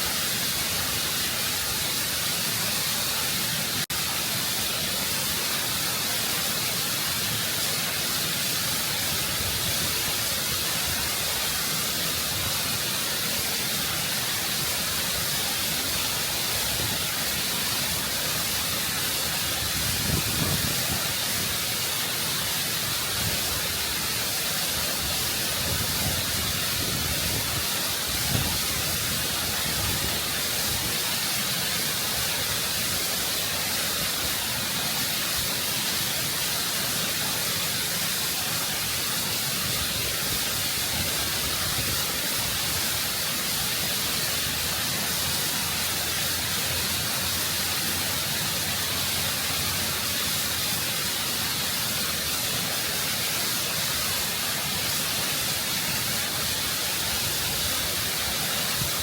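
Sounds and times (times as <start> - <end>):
waterfall rushing over rock: 0.0 - 59.0.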